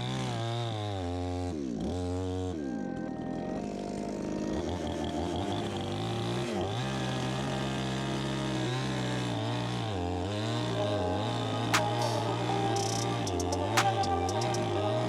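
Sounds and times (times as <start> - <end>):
two-stroke chainsaw engine running: 0.0 - 15.0.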